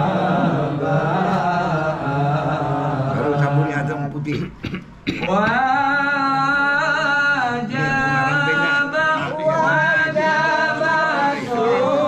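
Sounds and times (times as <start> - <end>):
person chanting unaccompanied: 0.0 - 4.3, 5.2 - 12.0.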